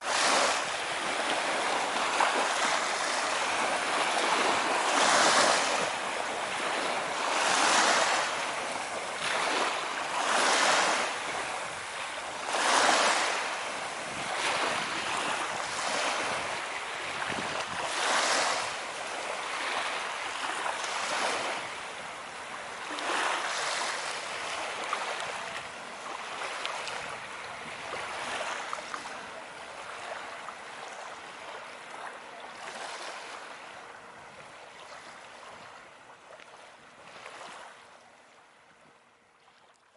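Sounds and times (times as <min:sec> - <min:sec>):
sea water splashing: 0:00.0 - 0:38.7.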